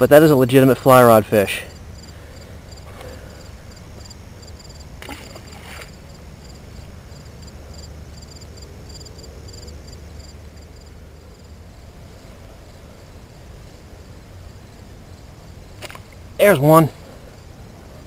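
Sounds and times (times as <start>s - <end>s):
insects chirping: 0.0s - 18.0s
low steady rumble: 0.0s - 18.0s.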